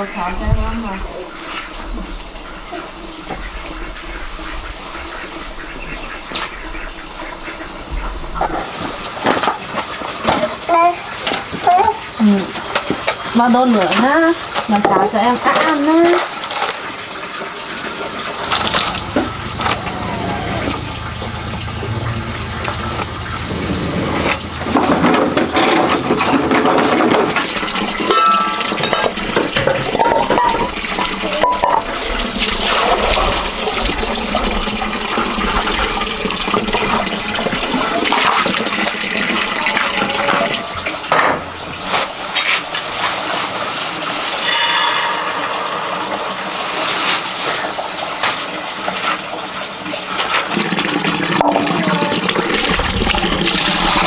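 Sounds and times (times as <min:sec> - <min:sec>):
water running and splashing: 0:00.0 - 0:44.4, 0:46.4 - 0:54.0.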